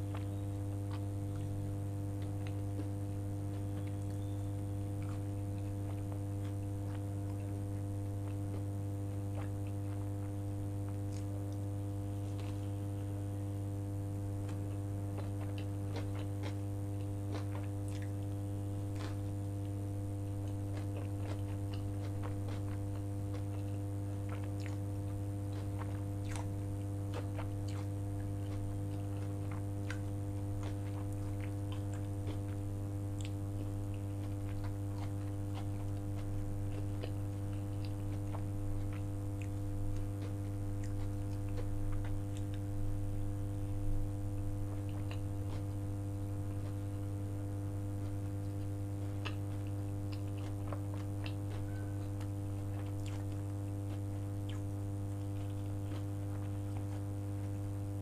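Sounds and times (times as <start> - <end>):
chewing: 0.0 - 57.8
low electrical hum: 0.0 - 58.0.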